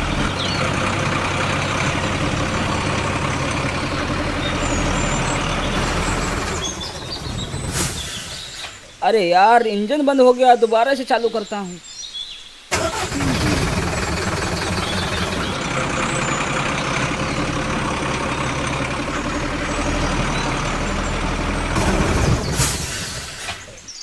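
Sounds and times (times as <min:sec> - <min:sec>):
vehicle engine starting and running: 0:00.0 - 0:08.9, 0:12.7 - 0:24.0.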